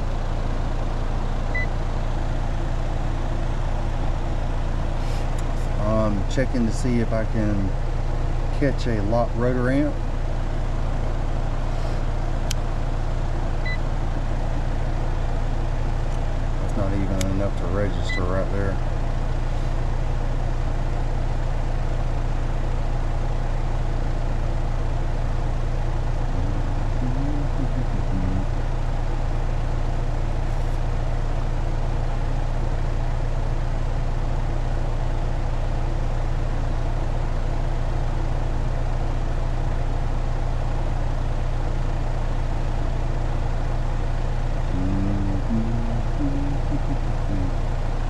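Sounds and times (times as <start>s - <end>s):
air conditioner unit humming: 0.0s - 48.0s.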